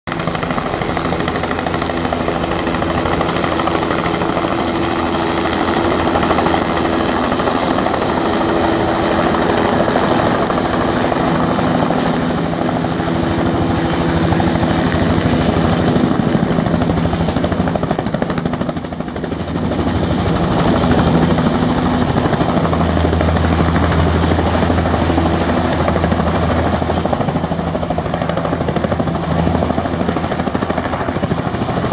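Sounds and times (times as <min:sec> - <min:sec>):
helicopter hovering: 0:00.1 - 0:31.9.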